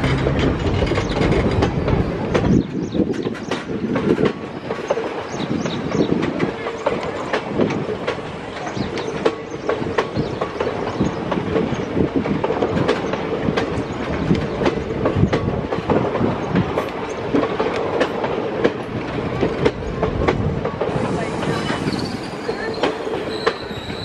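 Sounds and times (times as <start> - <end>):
train rumble: 0.0 - 24.0
train wheels clattering over rail joints: 0.0 - 24.0.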